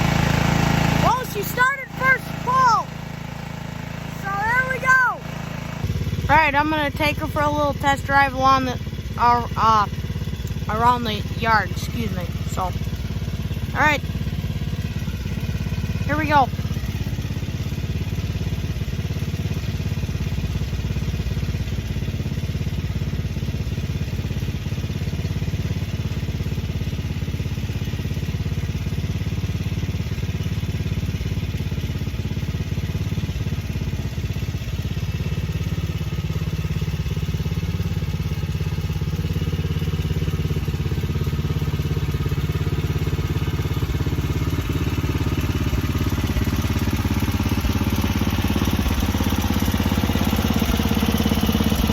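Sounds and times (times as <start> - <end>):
lawn tractor engine running: 0.0 - 51.9.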